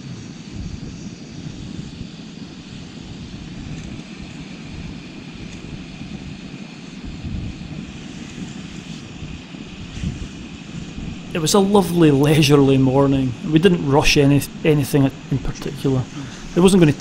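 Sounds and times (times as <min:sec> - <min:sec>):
gas stove burner roaring hiss: 0:00.0 - 0:17.0.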